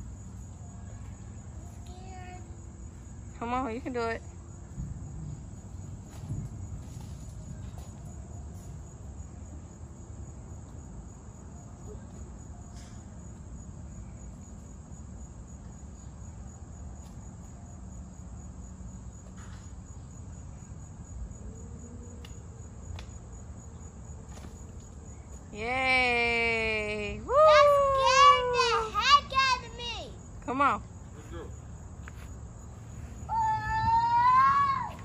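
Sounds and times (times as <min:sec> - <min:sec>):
continuous low rumble: 0:00.0 - 0:35.0
high-pitched insect trill: 0:00.0 - 0:35.0.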